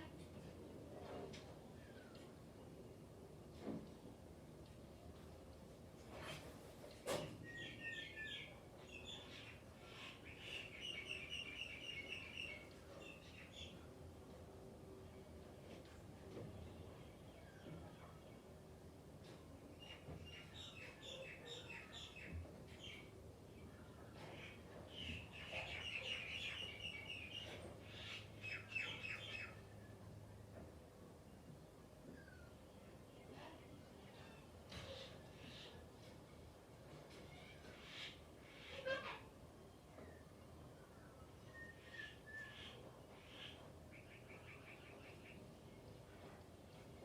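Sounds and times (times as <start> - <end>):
faint low hum: 0.0 - 38.8.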